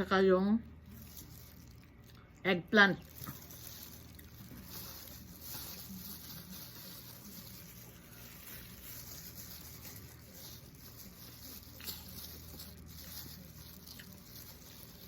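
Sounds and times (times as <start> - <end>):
quiet chewing: 0.8 - 15.0.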